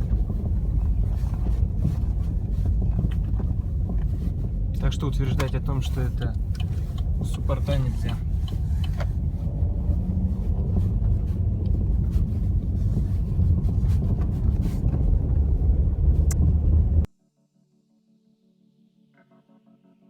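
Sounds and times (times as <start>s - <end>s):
suspension clatter and knocks: 0.0s - 17.1s
tyre and road rumble: 0.0s - 17.1s.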